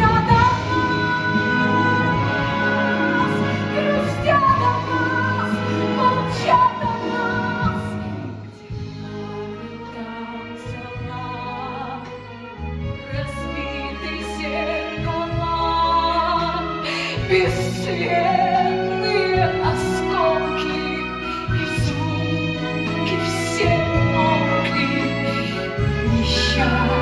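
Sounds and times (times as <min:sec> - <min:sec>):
woman singing with vibrato: 0:00.0 - 0:12.1, 0:13.1 - 0:27.0.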